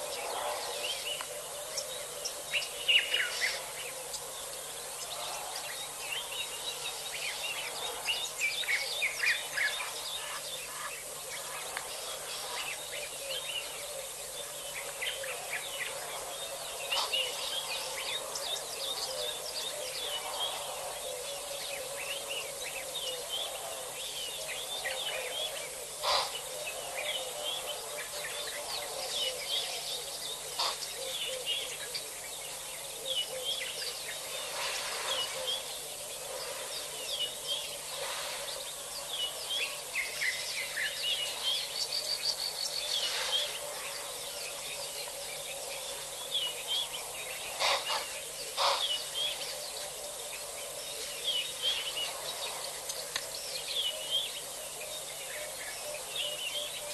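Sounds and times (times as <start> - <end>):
background hiss: 0.0 - 56.9
birds calling and chirping: 0.0 - 56.9.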